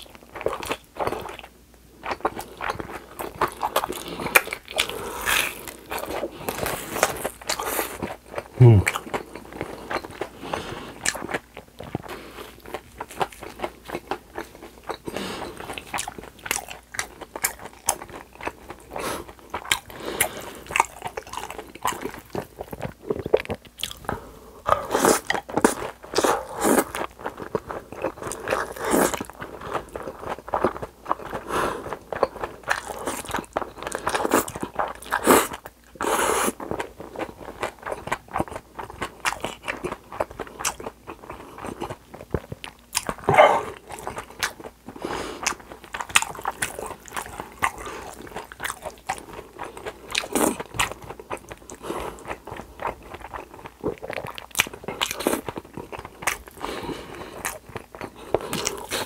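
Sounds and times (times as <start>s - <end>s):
crunchy fried food chewing: 0.0s - 59.0s.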